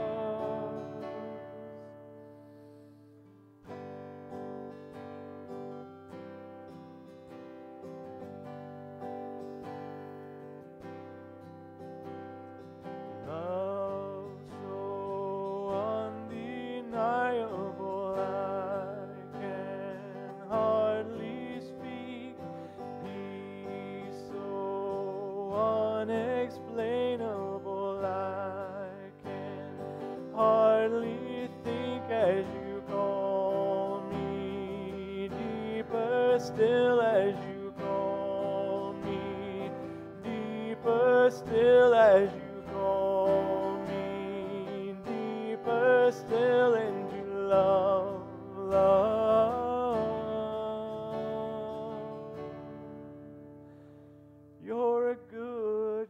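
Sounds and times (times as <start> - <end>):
acoustic guitar playing slow song: 0.0 - 56.0.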